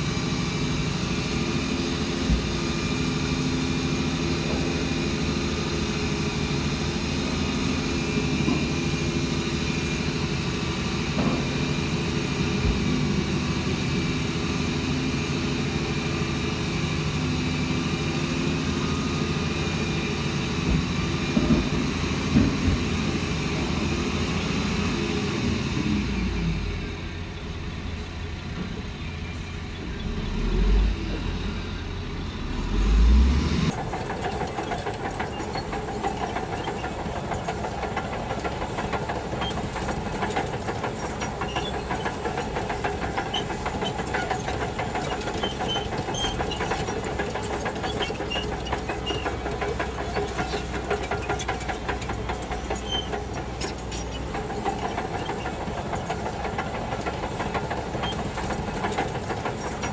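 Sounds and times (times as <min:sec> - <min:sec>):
bulldozer diesel engine running: 0:00.0 - 0:59.9
rapid engine clatter: 0:00.0 - 0:59.9.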